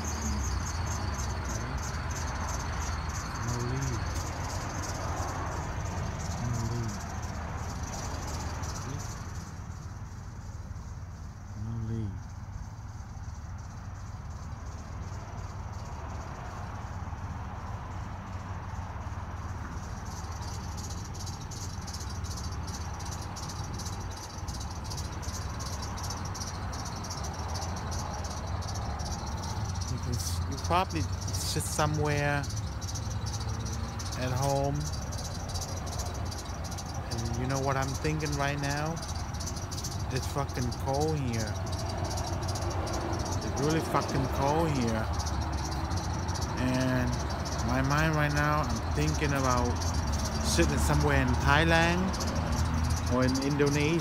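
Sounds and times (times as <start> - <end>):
rapid high-pitched chirping: 0.0 - 54.0
traffic rumble: 0.0 - 54.0
wind: 0.0 - 54.0.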